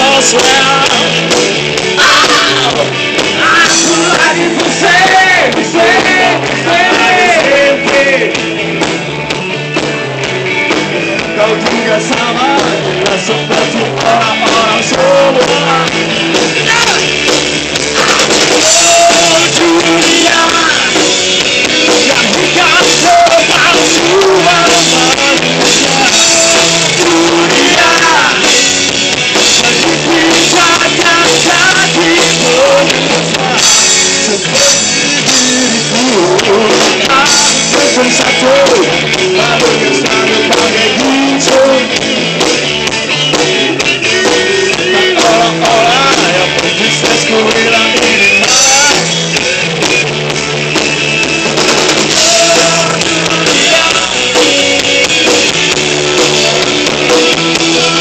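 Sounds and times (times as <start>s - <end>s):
person singing: 0.0s - 8.4s, 11.2s - 17.2s, 17.8s - 42.1s, 43.6s - 49.8s, 52.1s - 58.0s
drum kit: 0.0s - 58.0s
electric guitar: 0.0s - 58.0s.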